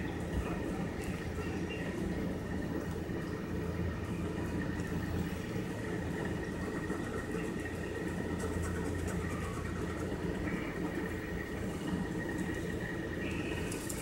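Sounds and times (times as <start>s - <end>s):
faint high whine: 0.0s - 14.0s
low background hum: 0.0s - 14.0s.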